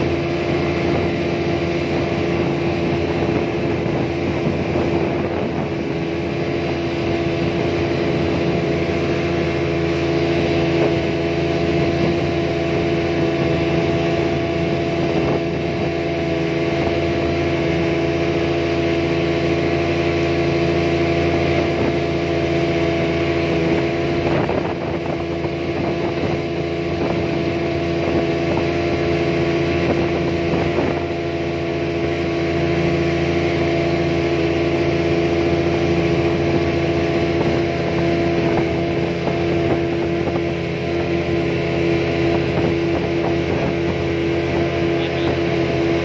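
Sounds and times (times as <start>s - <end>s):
boat engine droning: 0.0s - 46.0s
wind: 0.0s - 46.0s.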